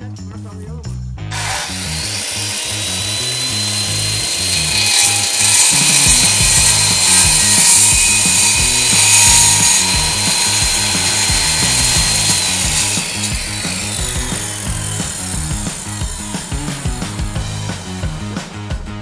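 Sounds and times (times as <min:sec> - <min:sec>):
power tool cutting siding board: 0:01.3 - 0:18.0
background music with beat: 0:03.3 - 0:19.0.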